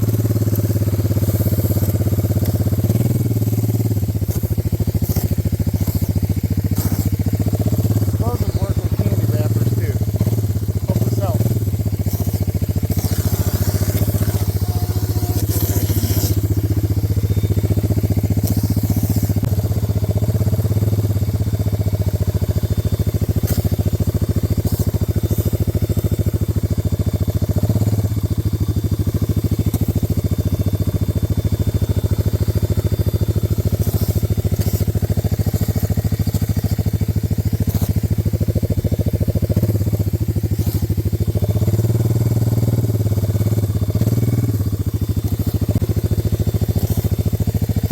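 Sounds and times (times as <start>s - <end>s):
atv engine idling: 0.0s - 47.9s.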